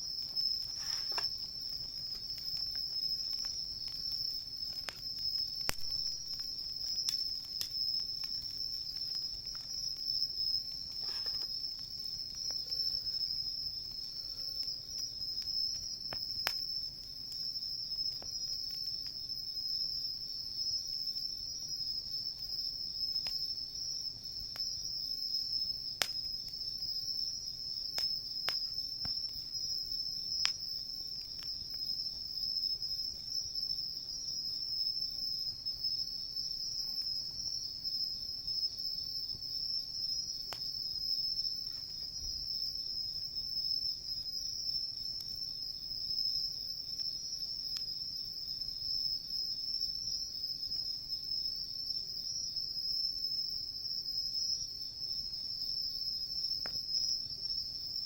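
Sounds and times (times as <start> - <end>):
wood fire crackling and popping: 0.0 - 51.0, 56.4 - 58.0
crickets trilling: 0.0 - 58.0.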